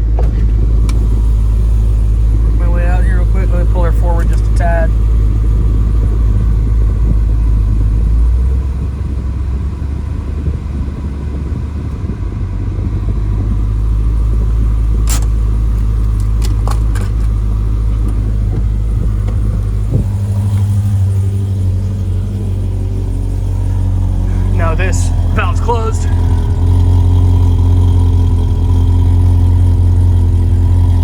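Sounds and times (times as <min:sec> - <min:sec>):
car engine at low revs: 0:00.0 - 0:31.0.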